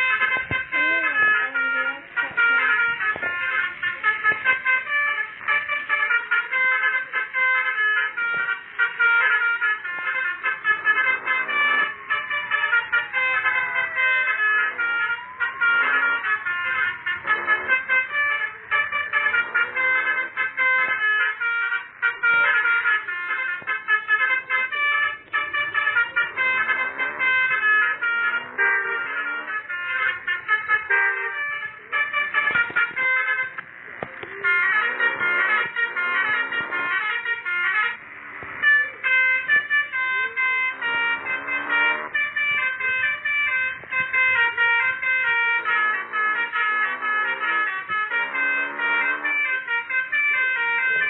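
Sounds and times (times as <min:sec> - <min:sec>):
multi-tone motorcycle horn tune: 0:00.0 - 0:51.0.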